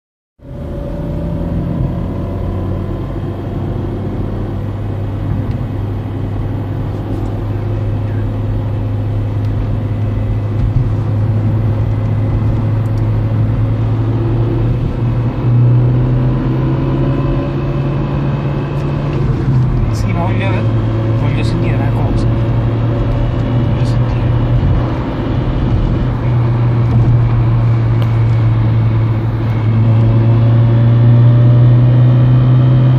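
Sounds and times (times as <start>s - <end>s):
car engine hum: 0.4s - 32.9s.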